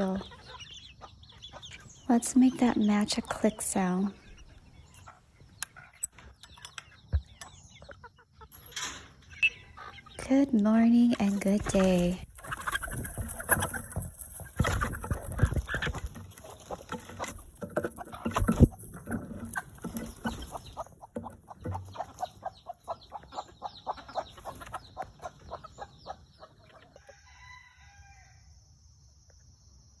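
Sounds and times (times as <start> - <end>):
chickens clucking: 0.0 - 27.7.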